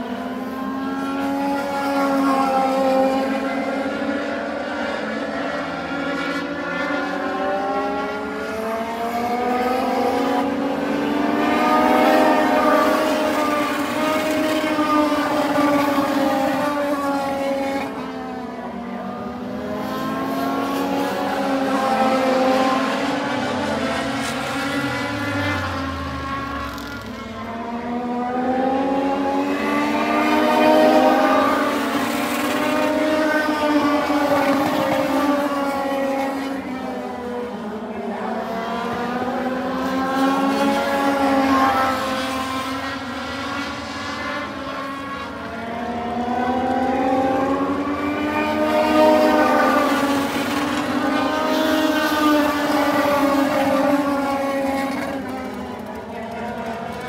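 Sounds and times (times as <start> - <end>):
race car engines running hard: 0.0 - 57.0.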